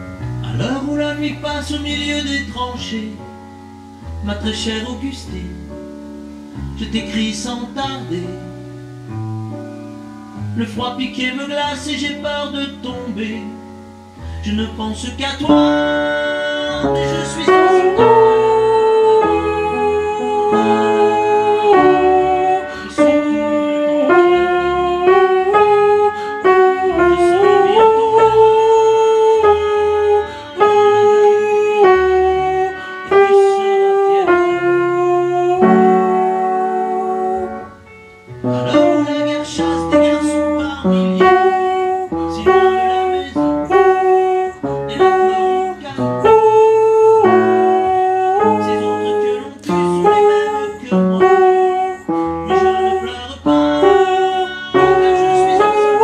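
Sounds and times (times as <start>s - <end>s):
upright piano playing chords: 0.0s - 56.0s.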